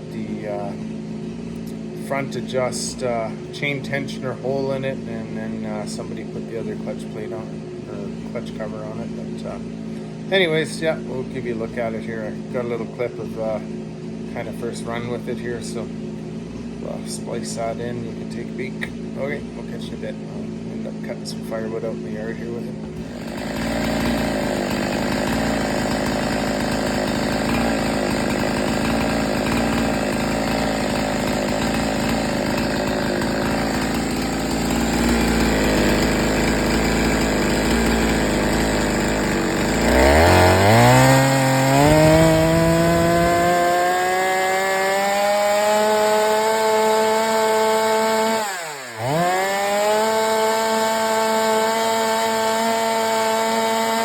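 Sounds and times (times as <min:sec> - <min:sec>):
chainsaw running hard: 0:00.0 - 0:54.0.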